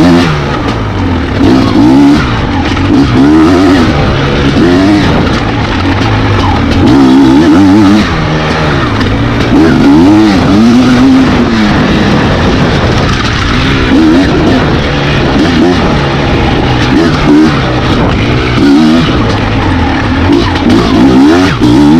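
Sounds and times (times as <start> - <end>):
dirt bike engine revving: 0.0 - 21.9.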